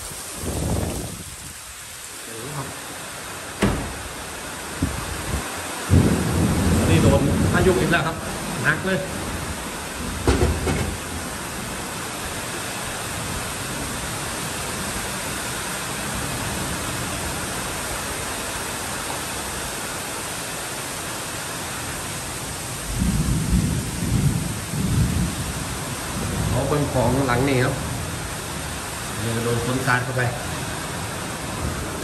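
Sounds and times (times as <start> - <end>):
heavy rain hiss: 0.0 - 32.0.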